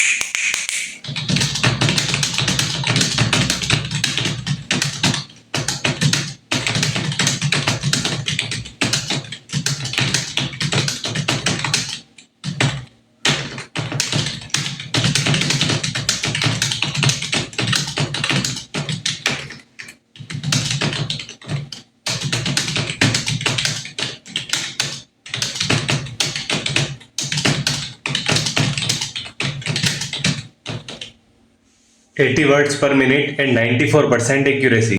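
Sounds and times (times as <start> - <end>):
fast typing on keyboard: 0.0 - 31.2.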